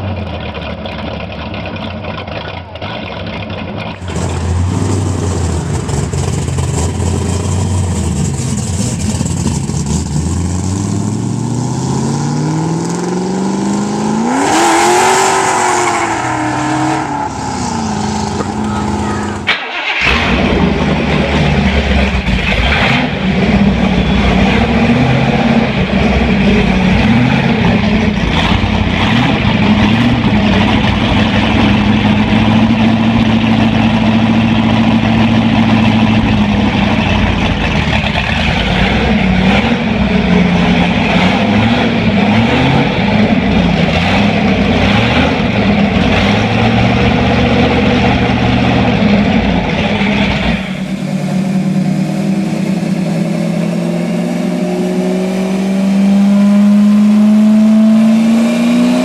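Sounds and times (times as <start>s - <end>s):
car engine running and revving: 0.0s - 59.0s.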